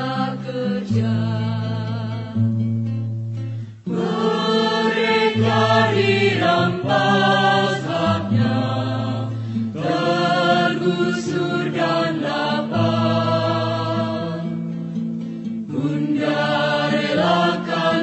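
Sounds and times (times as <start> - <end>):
solemn song with voices: 0.0 - 18.0.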